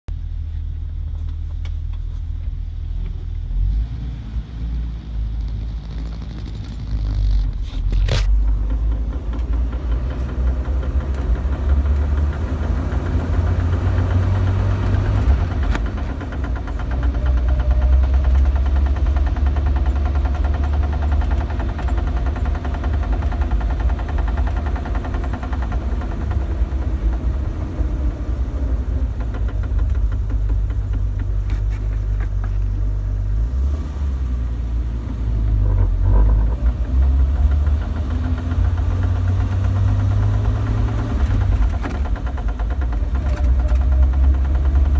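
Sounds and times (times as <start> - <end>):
car engine running: 0.1 - 44.9.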